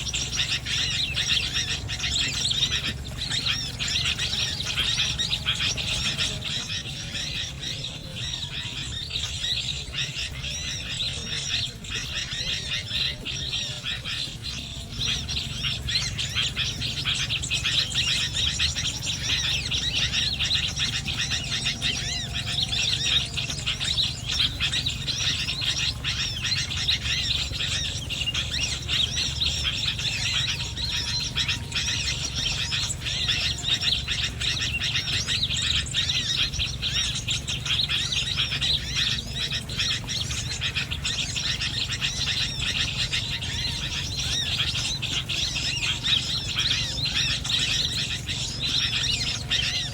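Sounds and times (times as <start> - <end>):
small birds twittering: 0.0 - 49.9
steady low hum: 0.0 - 49.9.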